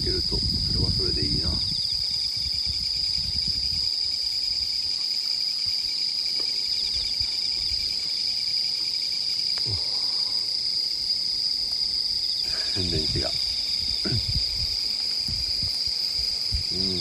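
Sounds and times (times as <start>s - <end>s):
insects trilling: 0.0s - 17.0s
pulsing cricket chirps: 0.0s - 17.0s.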